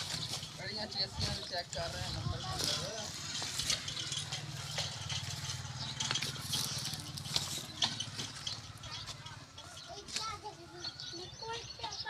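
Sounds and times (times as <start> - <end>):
tractor diesel engine idling: 0.0 - 10.1.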